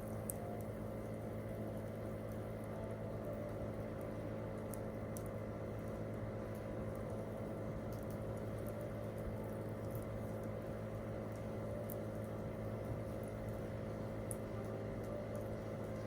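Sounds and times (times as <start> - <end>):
faint campfire crackles: 0.0 - 16.0
steady low hum: 0.0 - 16.0.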